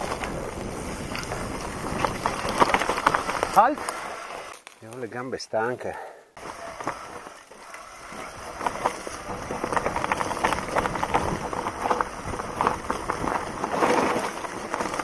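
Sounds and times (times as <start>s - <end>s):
bike tyres rolling on leaves and stones: 0.0s - 15.0s.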